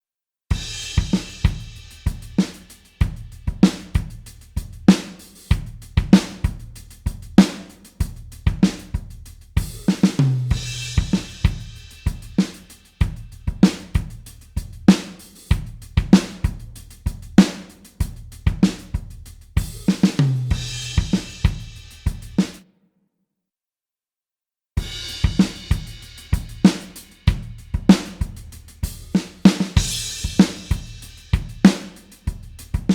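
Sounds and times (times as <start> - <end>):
rock drum beat: 0.5 - 22.6, 24.8 - 32.9.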